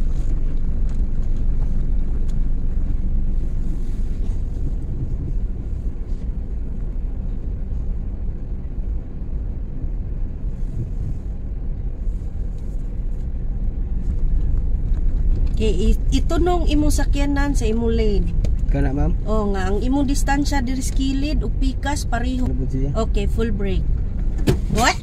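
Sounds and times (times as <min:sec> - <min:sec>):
car engine and tyre noise: 0:00.0 - 0:25.0.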